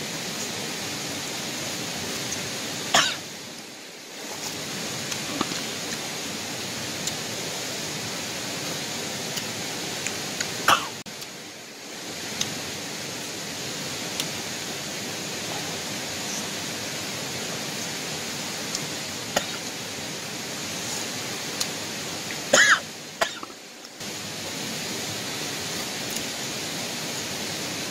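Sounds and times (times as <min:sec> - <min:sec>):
steady hiss: 0:00.0 - 0:27.9.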